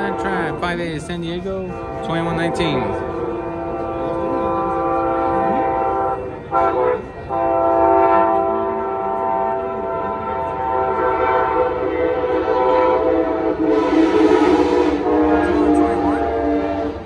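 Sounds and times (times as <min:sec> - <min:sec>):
train air horn blasts: 0:00.0 - 0:17.0.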